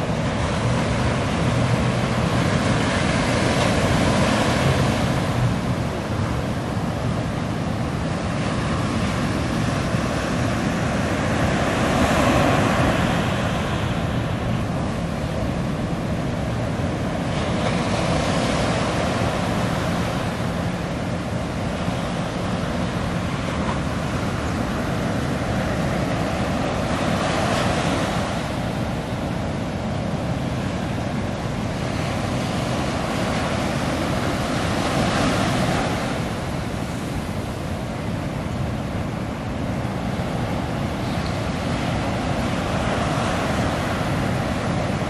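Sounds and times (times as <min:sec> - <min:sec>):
ocean surf breaking: 0:00.0 - 0:45.0
outboard motors humming: 0:00.0 - 0:45.0.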